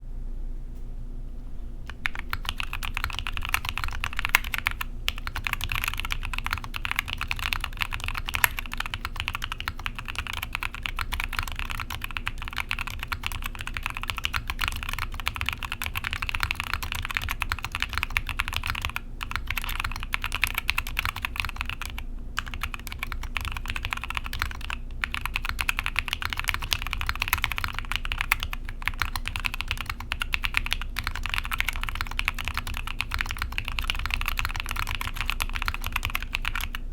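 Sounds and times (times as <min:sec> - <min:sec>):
mechanical keyboard typing: 0:01.9 - 0:36.8.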